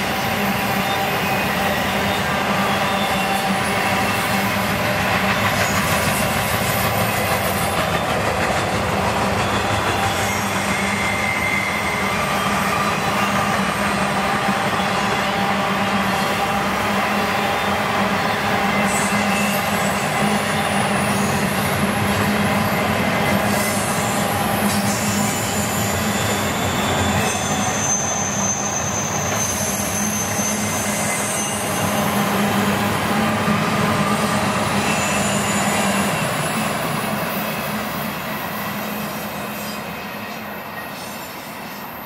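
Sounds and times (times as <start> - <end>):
high-pitched wheel squeals: 0.0 - 8.2, 9.2 - 42.0
steel wheels rolling on rails: 0.0 - 42.0.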